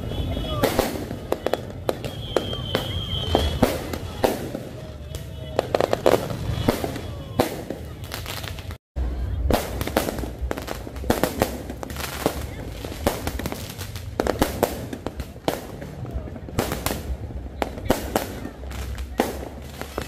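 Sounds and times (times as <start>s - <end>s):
crowd chatter: 0.0s - 20.0s
fireworks bangs and crackles: 0.0s - 20.0s.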